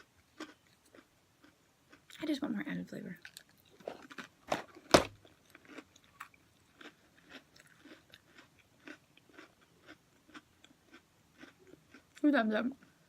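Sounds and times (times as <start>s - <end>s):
person chewing crispy crackers: 0.0s - 2.2s, 3.2s - 12.2s.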